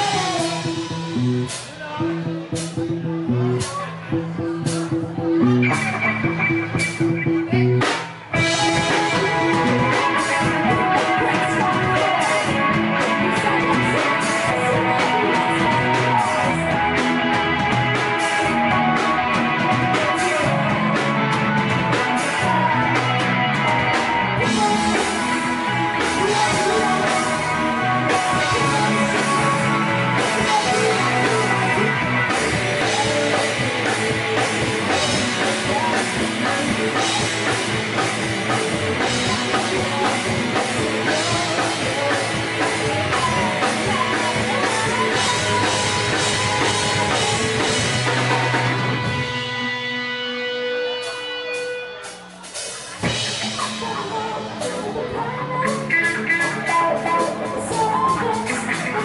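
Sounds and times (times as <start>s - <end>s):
drum kit with cymbals: 0.0s - 4.0s, 6.7s - 49.5s, 51.0s - 59.0s
electric guitars: 0.0s - 59.0s.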